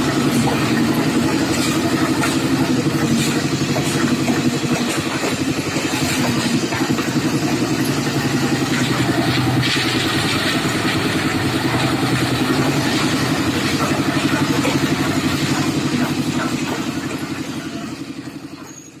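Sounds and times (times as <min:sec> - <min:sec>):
clatter: 0:00.0 - 0:19.0
concrete mixer engine running: 0:00.0 - 0:19.0.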